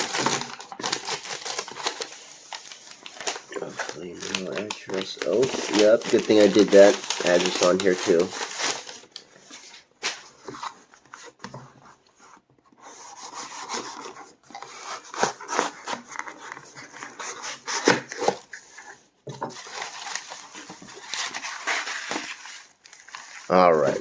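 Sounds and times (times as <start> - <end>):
cardboard and paper rubbing: 0.0 - 9.0, 12.2 - 24.0.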